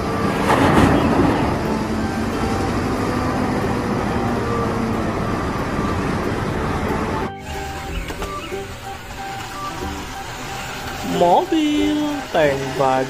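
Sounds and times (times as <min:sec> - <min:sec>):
wheel loader diesel engine under load: 0:00.0 - 0:13.0.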